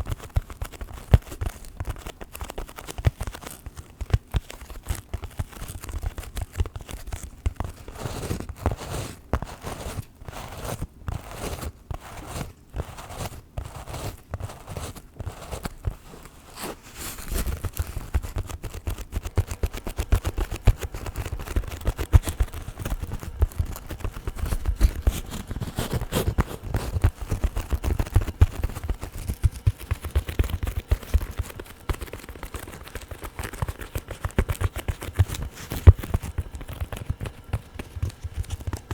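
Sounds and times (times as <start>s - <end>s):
heavy rubbing and tapping: 7.4s - 38.9s
fingernails scratching microphone: 7.6s - 38.9s.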